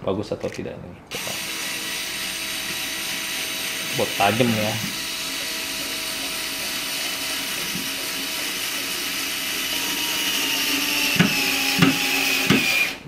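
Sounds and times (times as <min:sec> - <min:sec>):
electric screwdriver motor whine: 0:01.1 - 0:13.0.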